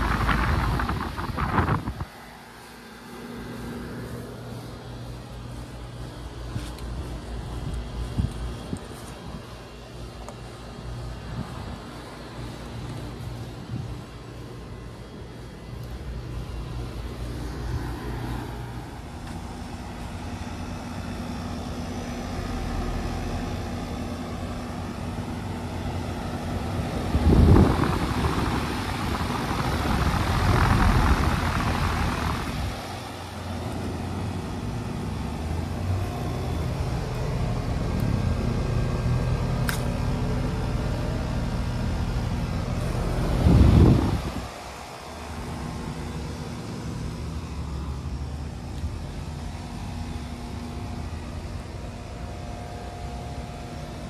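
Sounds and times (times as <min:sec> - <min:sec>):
heat pump compressor and fan hum: 0:00.0 - 0:54.0
rush of fan air: 0:00.0 - 0:54.0.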